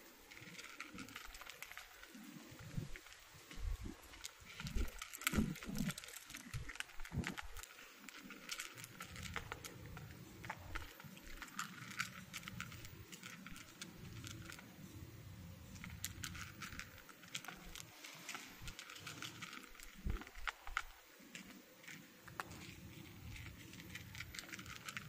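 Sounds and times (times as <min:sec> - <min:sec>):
cats crunching dry kibble: 0:00.1 - 0:25.0.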